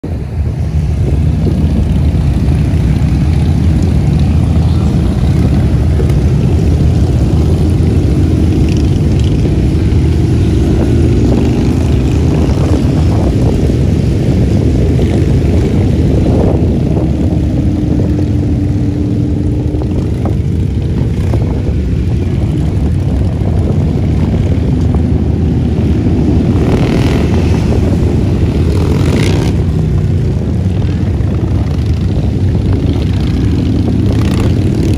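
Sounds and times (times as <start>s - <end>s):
massed motorcycle engine rumble: 0.0s - 34.9s
louder sharper motorcycle passing: 0.9s - 34.9s.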